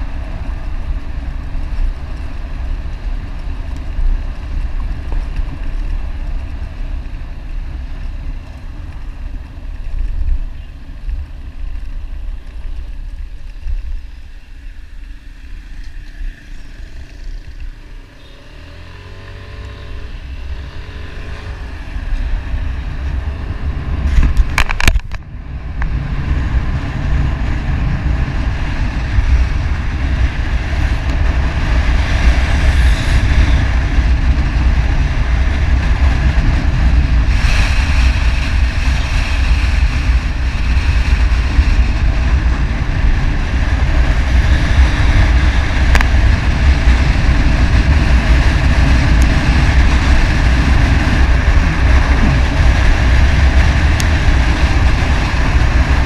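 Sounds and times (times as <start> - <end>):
motorcycle engine: 0.0 - 56.0
road noise: 0.0 - 56.0
wind rumble on microphone: 0.0 - 56.0.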